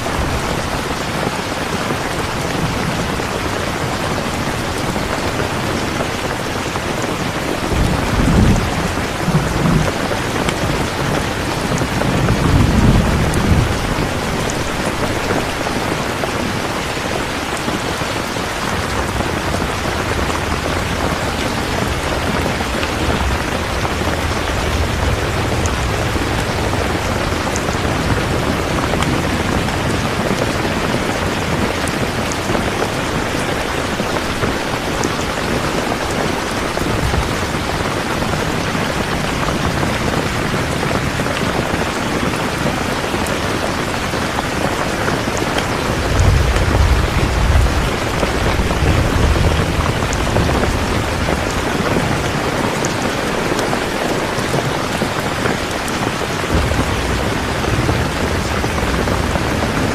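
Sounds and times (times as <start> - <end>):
rain falling: 0.0 - 59.9
thunder rumbling: 0.0 - 59.9.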